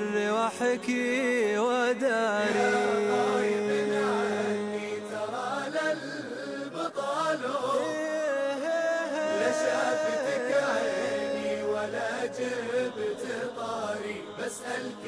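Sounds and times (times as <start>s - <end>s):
person singing ornamented melody: 0.0s - 15.0s.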